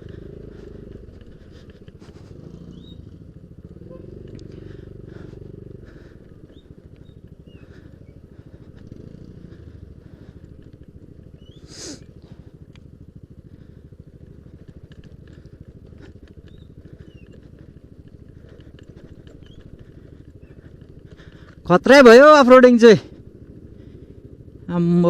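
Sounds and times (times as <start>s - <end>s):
scooter engine running: 0.0s - 25.0s.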